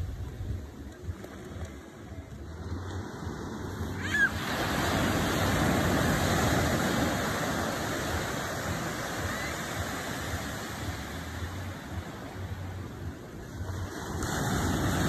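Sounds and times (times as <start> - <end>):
waves washing up a beach: 0.0 - 15.0.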